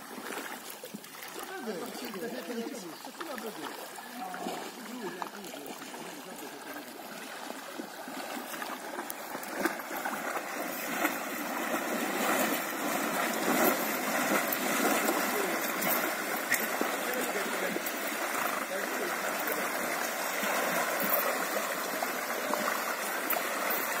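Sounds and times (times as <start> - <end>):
water splashing around wading horse: 0.0 - 24.0.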